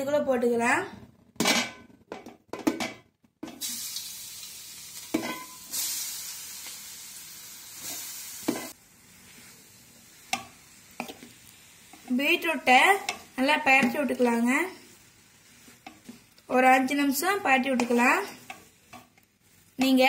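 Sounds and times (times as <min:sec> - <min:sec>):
beetroot sizzling in a pan: 0:03.4 - 0:20.0.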